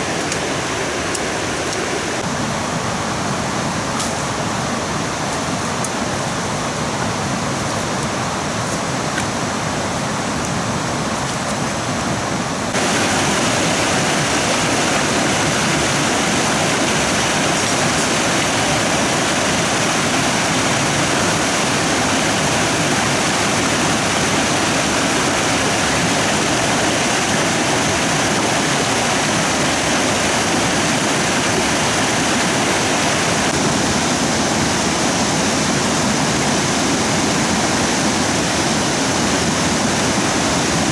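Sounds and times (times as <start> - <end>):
flowing stream water: 0.0 - 40.9.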